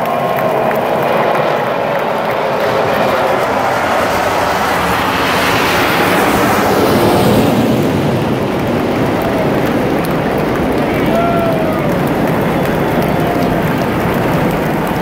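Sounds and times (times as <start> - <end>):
fighter jets roaring overhead: 0.0 - 15.0.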